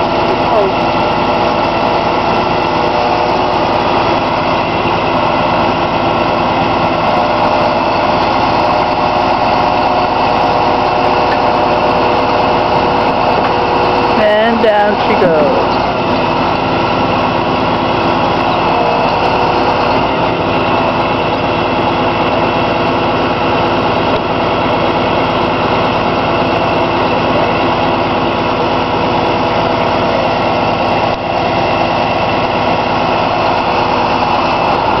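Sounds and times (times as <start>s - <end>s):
crane engine running: 0.0s - 35.0s.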